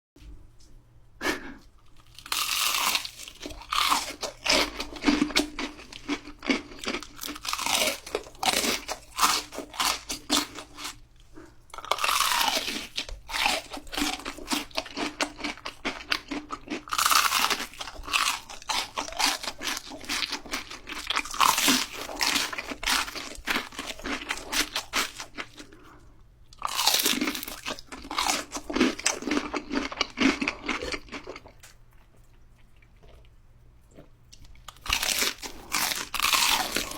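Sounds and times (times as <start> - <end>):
crunching fried shrimp: 1.9 - 11.0, 11.7 - 25.9, 26.5 - 33.3, 34.3 - 36.9.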